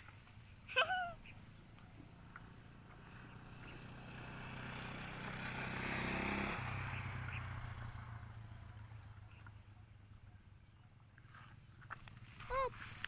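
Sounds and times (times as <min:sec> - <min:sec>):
motor vehicle passing by: 0:00.2 - 0:13.0.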